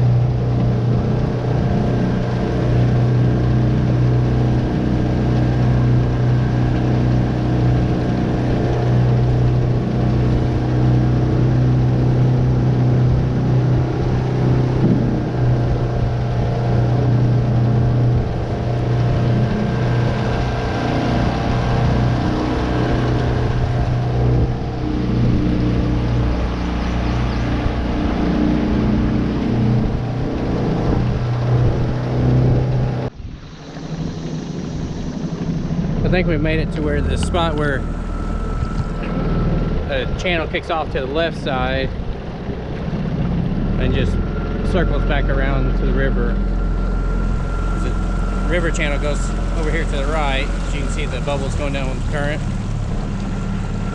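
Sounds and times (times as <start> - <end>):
outboard motor running: 0.0 - 53.9
water rushing along hull: 0.0 - 53.9.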